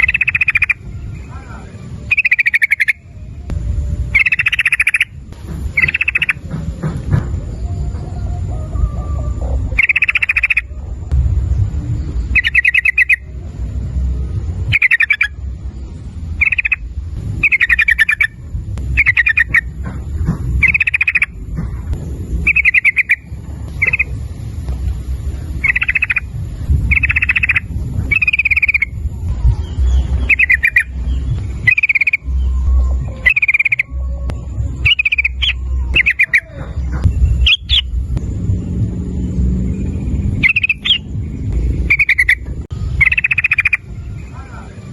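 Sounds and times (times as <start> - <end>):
bird singing trilled phrases: 0.0 - 3.5, 4.1 - 6.5, 7.5 - 10.9, 12.0 - 13.7, 14.4 - 19.8, 20.6 - 21.4, 22.0 - 24.3, 25.5 - 38.2, 39.0 - 44.9
low rumble: 0.0 - 44.9.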